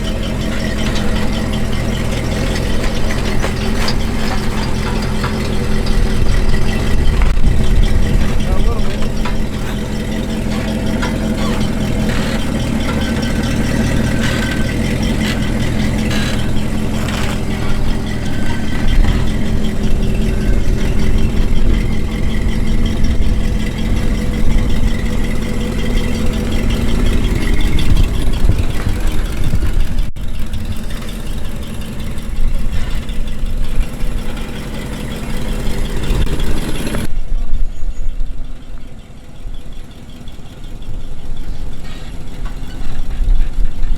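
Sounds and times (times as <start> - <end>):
car engine running at low speed: 0.0 - 43.9.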